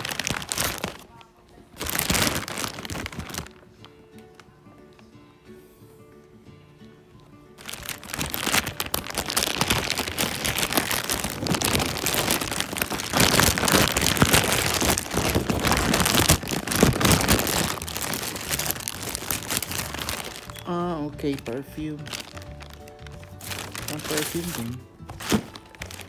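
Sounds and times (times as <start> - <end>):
plastic bag rustling and crinkling: 0.0 - 3.7, 7.6 - 26.0.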